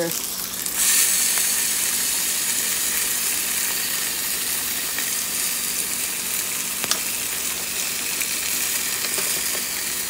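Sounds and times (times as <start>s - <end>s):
fish sizzling on a grill: 0.0s - 10.0s.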